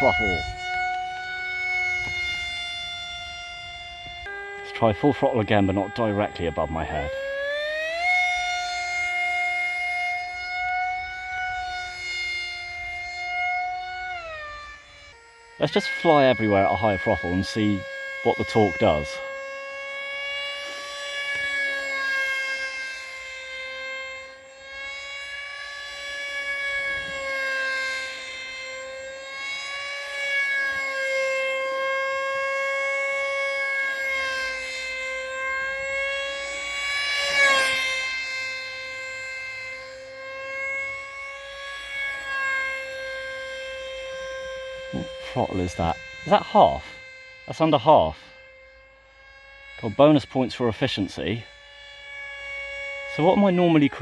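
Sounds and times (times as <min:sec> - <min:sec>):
electric motor and propeller whining: 0:00.0 - 0:54.0.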